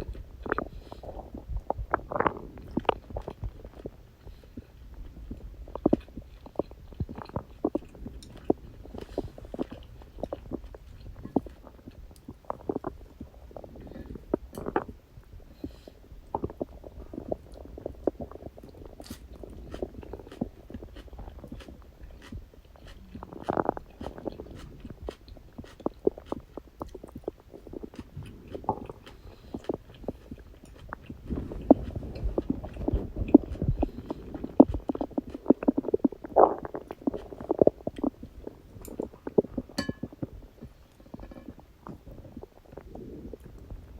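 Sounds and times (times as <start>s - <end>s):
stomach gurgling and growling: 0.0s - 43.9s.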